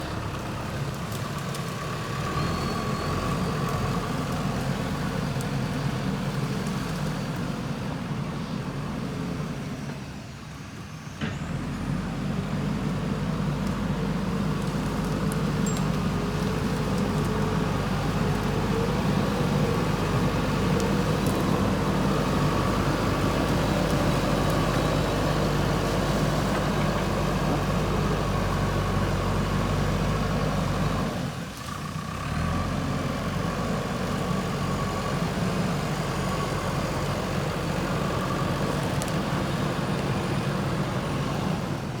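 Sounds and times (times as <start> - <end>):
diesel engine under load: 0.0 - 42.0.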